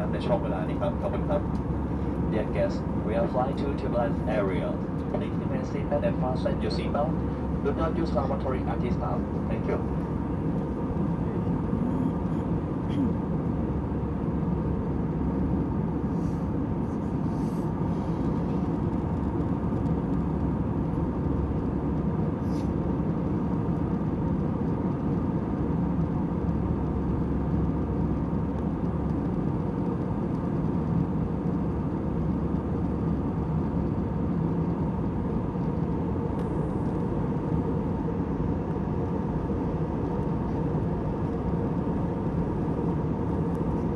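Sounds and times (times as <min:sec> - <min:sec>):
airliner cabin engine rush: 0:00.0 - 0:43.9
faint hum: 0:00.0 - 0:43.9.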